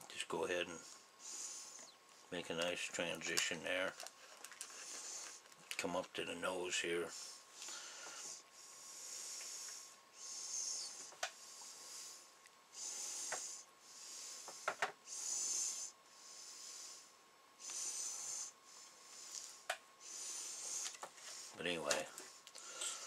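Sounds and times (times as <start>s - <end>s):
person breathing: 0.8s - 2.0s, 4.2s - 5.5s, 7.0s - 23.0s.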